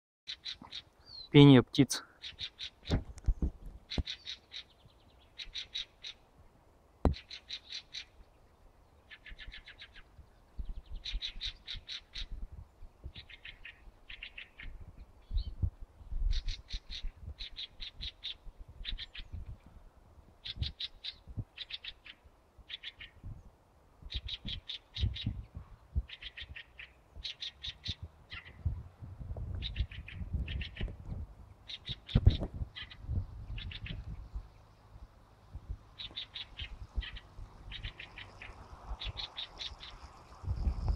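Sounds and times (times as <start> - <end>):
songbirds trilling: 0.3 - 6.4, 7.1 - 28.7, 29.6 - 40.9.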